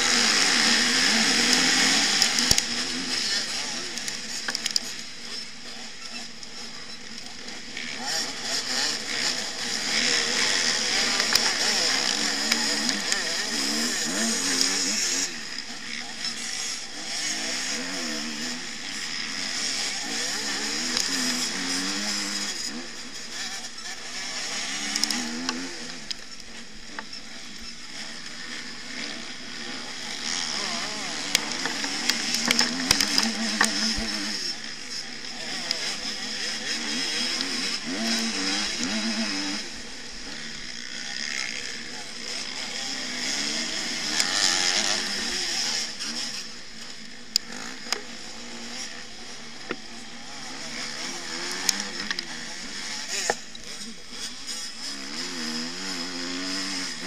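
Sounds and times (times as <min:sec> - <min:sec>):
motocross bike engines revving: 0:00.0 - 0:57.0.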